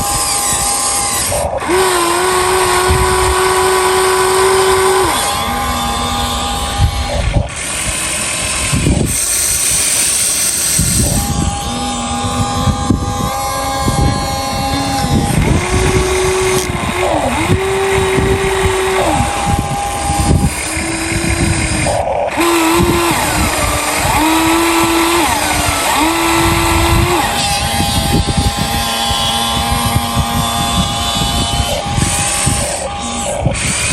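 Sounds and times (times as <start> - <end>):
rough crackling: 0.0 - 33.9
small electric motors whining: 0.0 - 33.9.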